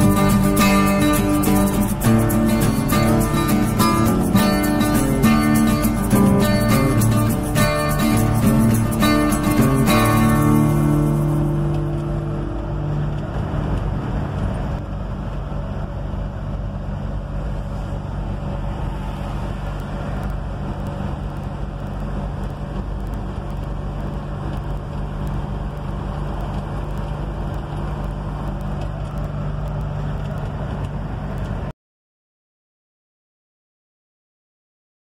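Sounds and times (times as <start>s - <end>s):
road noise: 0.0s - 31.7s
truck engine drone: 0.0s - 31.7s.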